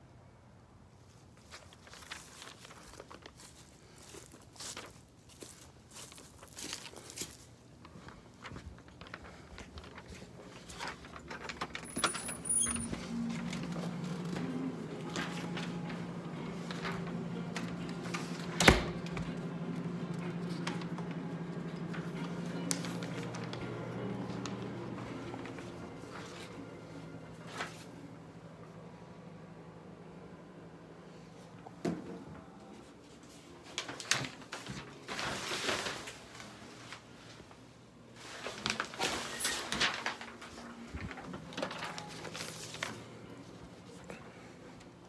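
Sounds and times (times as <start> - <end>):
steady low room hum: 0.0 - 45.0.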